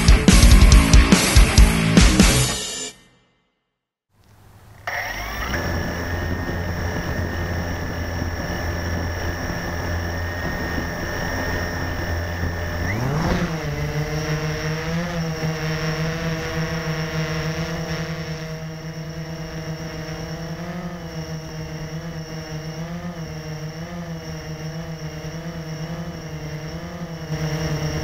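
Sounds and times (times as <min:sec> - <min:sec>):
quadcopter motors and propellers: 0:04.2 - 0:28.0.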